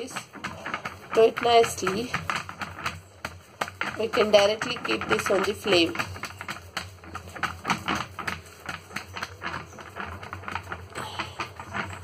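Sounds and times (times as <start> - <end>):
fingers patting dough: 0.0 - 12.0.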